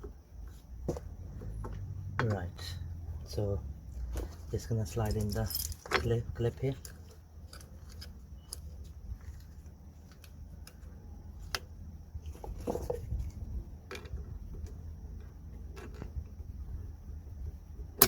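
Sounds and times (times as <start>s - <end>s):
handling noises: 0.0s - 2.6s, 3.9s - 16.4s
steady low hum: 0.0s - 18.0s.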